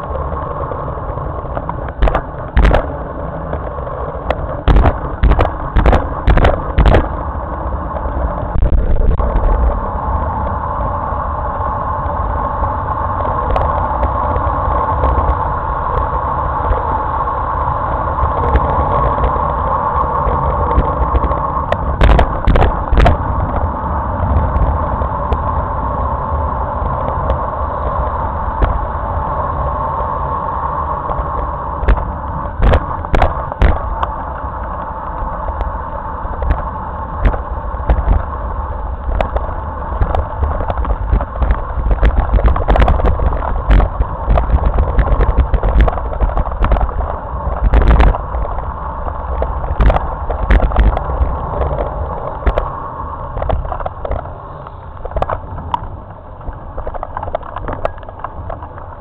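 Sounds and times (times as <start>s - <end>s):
bicycle tyres rolling on asphalt: 0.0s - 59.0s
wind buffeting microphone: 0.0s - 59.0s.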